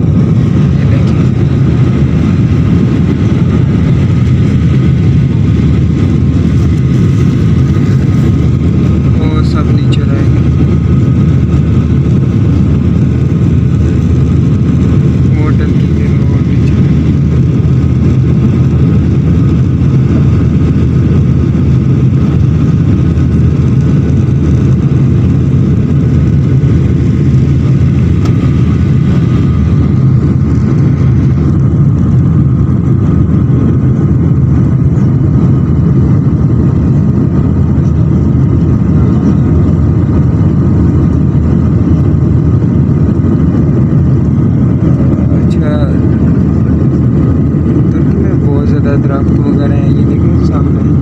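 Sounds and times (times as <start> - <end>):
faint engine whine: 0.0 - 51.0
jet cabin low rumble: 0.0 - 51.0.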